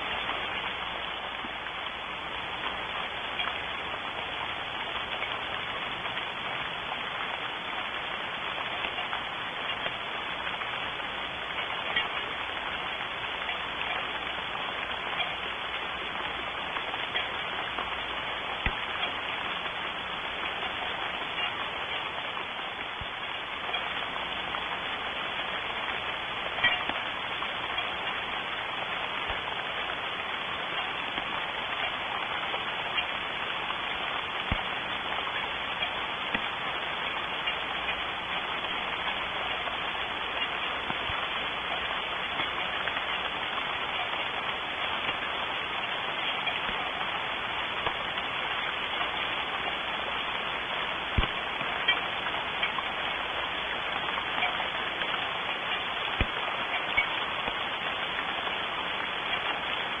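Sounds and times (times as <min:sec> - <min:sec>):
steady rain patter: 0:00.0 - 1:00.0.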